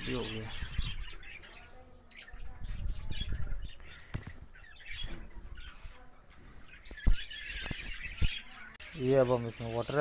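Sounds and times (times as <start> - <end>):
caged birds chirping and squawking: 0.0 - 10.0.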